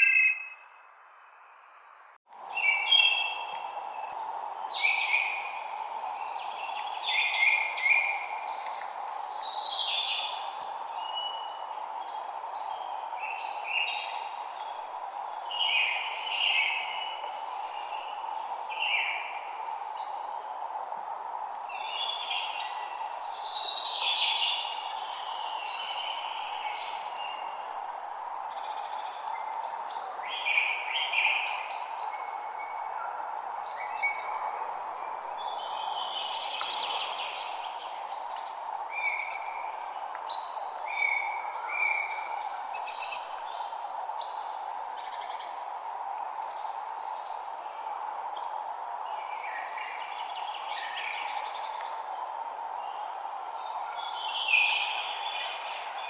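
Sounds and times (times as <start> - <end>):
songbirds singing and chirping: 0.0 - 56.0
steady background hiss: 2.3 - 56.0.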